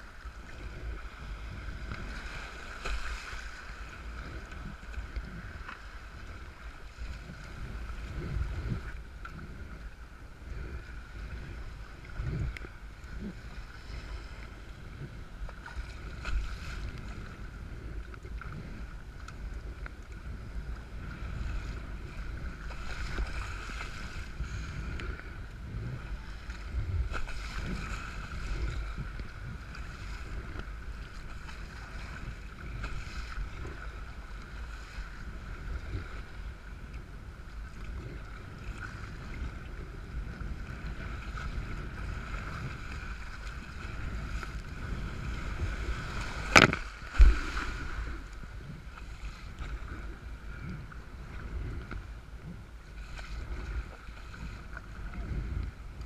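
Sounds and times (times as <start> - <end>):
rough breaking water: 0.0 - 56.0
water splashing around kayak: 0.0 - 56.0
wind rumbling on microphone: 0.0 - 56.0.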